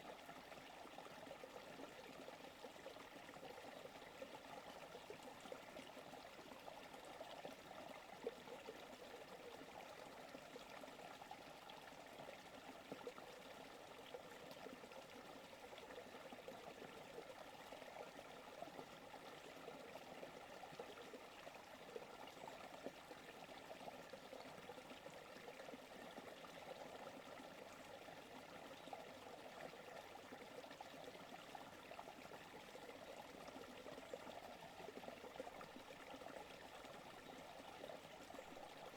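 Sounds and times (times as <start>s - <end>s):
creek water babbling: 0.0s - 38.9s.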